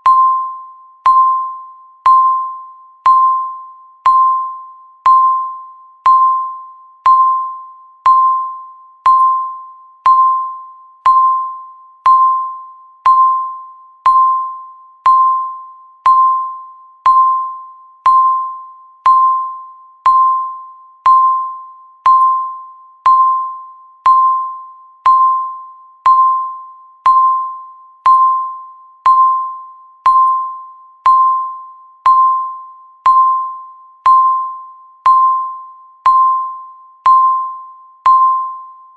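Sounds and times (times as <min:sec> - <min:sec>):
countdown timer beeping: 0:00.0 - 0:38.9.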